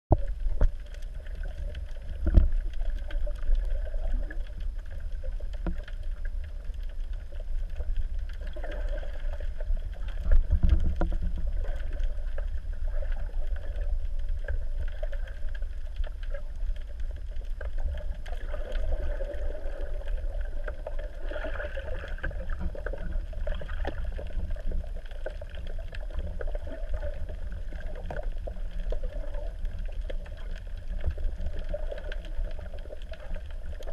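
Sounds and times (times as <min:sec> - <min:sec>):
faint clicks and crackles: 0:00.1 - 0:33.9
underwater rumble of moving water: 0:00.1 - 0:33.9.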